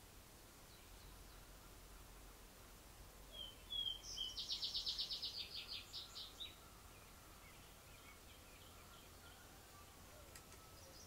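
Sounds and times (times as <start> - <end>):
songbird singing trill: 0.6 - 2.2, 3.2 - 11.0.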